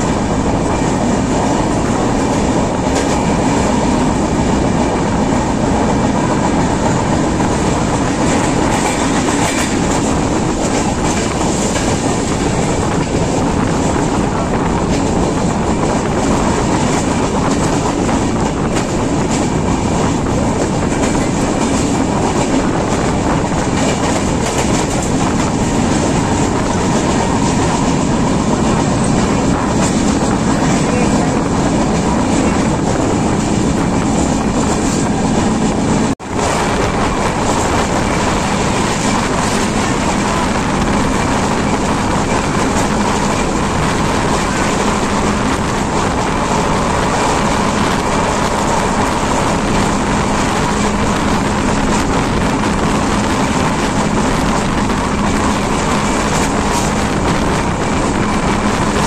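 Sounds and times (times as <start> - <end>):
rushing air: 0.0 - 59.0
train wheels rumbling on rails: 0.0 - 59.0
wheels clicking over rail joints: 6.9 - 59.0.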